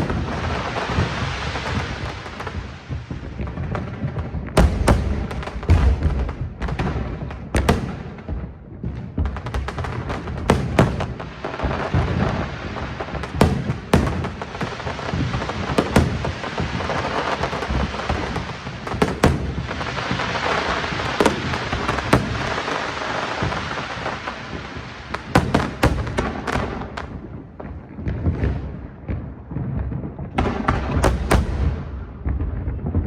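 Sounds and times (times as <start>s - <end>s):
fireworks bangs: 0.0s - 33.0s
rumble of fireworks bursts: 0.0s - 33.0s.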